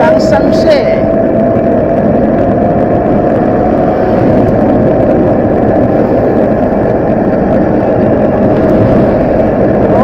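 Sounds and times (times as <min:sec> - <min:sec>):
faint steady whine: 0:00.0 - 0:10.0
wind rushing over microphone: 0:00.0 - 0:10.0.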